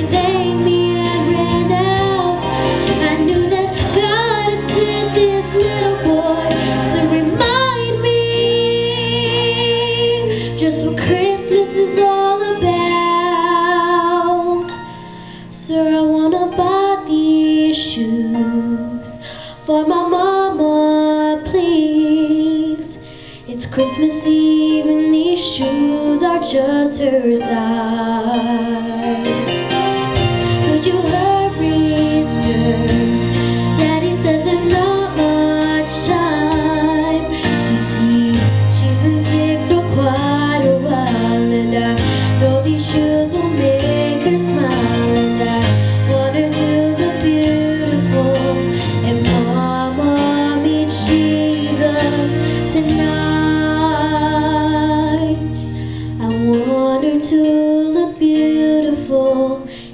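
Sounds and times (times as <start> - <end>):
girl singing into microphone: 0.0 - 29.5, 30.6 - 59.9
instrumental accompaniment with bass: 0.0 - 59.9.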